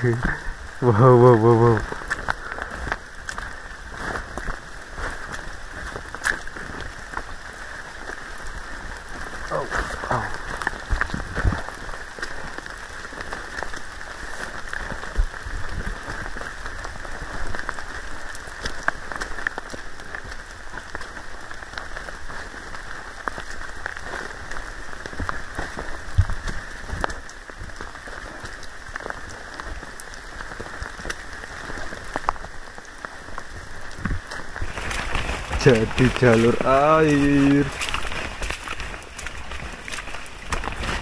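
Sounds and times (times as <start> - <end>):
heavy rain: 0.0 - 41.0
raindrops ticking near microphone: 0.0 - 41.0.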